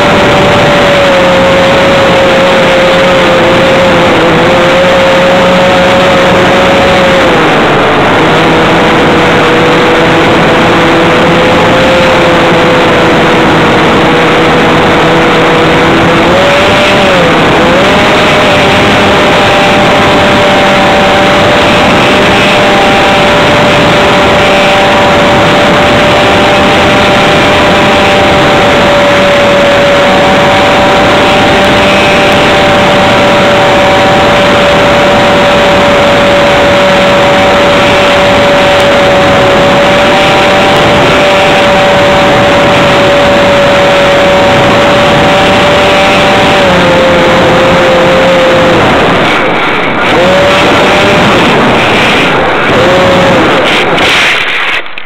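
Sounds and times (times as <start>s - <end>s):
model airplane motor: 0.0s - 54.9s
wind rush: 0.0s - 55.0s.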